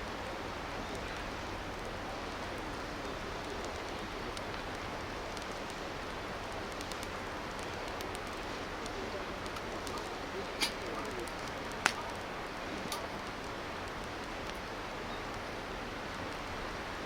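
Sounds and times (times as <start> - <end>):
wood fire crackles: 0.0 - 17.0.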